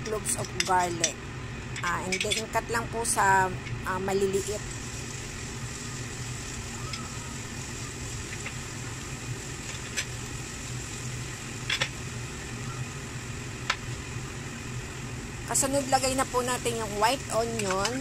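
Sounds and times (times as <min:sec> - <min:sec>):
steady low hum: 0:00.0 - 0:18.0
garlic sizzling in oil: 0:02.6 - 0:18.0.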